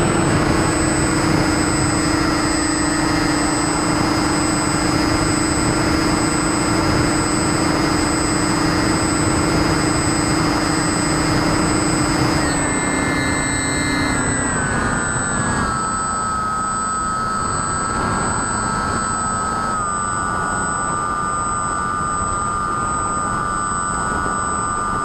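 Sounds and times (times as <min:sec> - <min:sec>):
model plane motors and propellers: 0:00.0 - 0:25.0.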